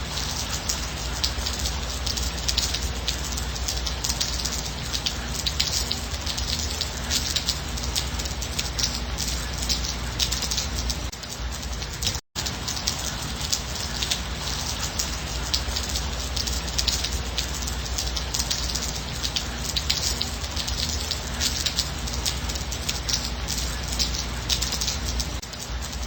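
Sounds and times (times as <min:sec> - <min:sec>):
rain pattering on a surface: 0:00.0 - 0:26.0.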